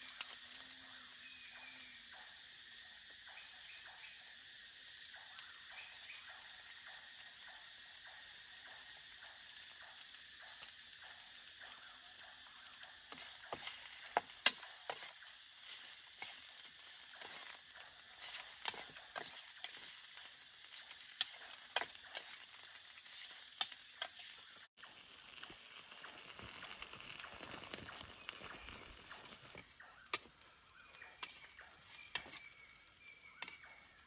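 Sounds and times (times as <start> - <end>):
food sizzling in a pan: 0.0 - 34.0
sharp pops and crackles: 0.0 - 34.0.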